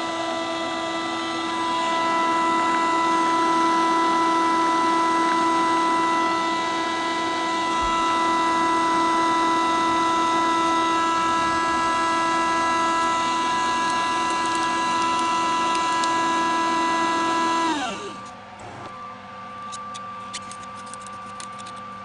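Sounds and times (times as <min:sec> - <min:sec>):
homogenizer motor whine: 0:00.0 - 0:22.0.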